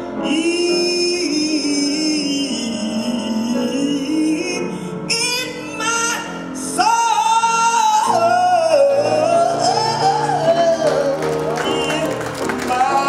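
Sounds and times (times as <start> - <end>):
piano accompaniment: 0.0 - 13.0
woman singing gospel: 0.2 - 13.0.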